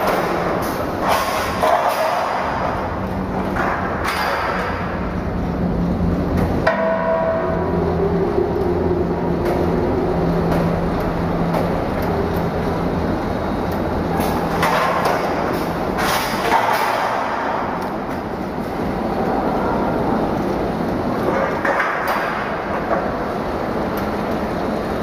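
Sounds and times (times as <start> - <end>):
packing machine humming: 0.0 - 25.0.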